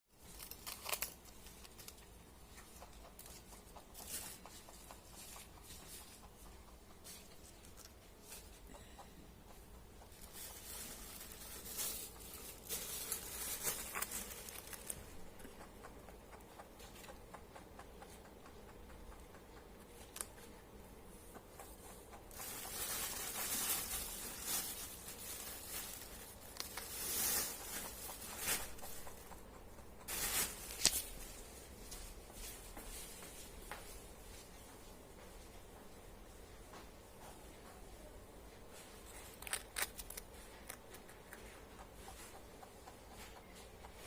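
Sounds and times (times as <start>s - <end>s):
rabbit chewing food: 0.1s - 35.2s, 38.6s - 44.0s.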